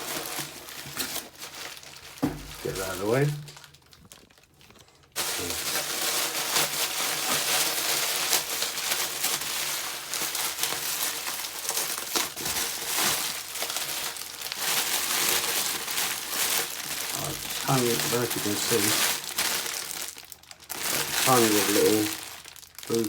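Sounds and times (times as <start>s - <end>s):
packaging rustling: 0.0s - 23.0s.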